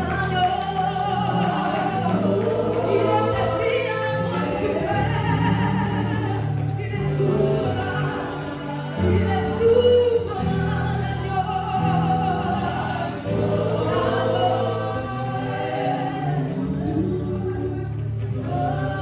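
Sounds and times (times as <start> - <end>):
group singing gospel song: 0.0 - 19.0.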